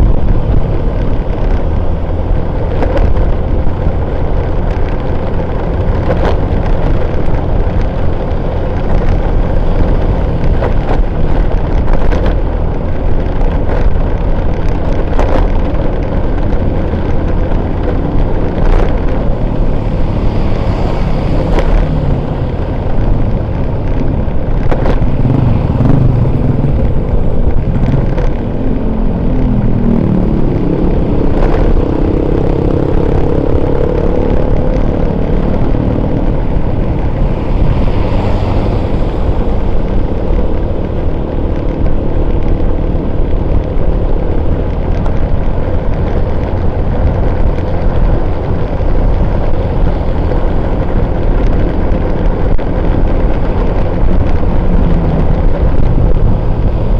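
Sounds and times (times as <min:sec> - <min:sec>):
vehicle engine running: 0:00.0 - 0:56.9
wind and road noise: 0:00.0 - 0:56.9.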